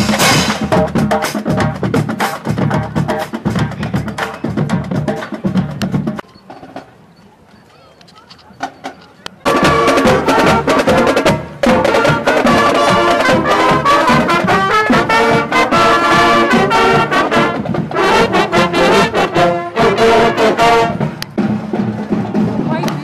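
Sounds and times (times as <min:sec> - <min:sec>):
brass band playing: 0:00.0 - 0:06.2, 0:09.4 - 0:22.9.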